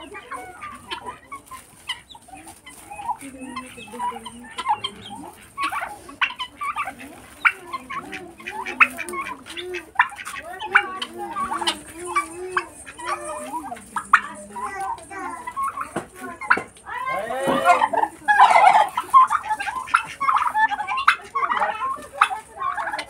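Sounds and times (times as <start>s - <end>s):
turkeys and chickens clucking: 0.0s - 23.0s.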